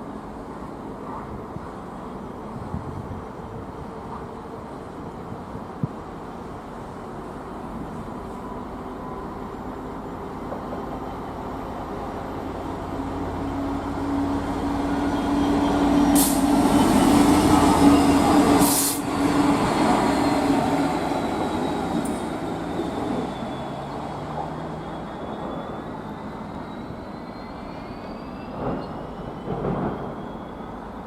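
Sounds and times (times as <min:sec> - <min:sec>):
train passing at speed: 0:00.0 - 0:31.0.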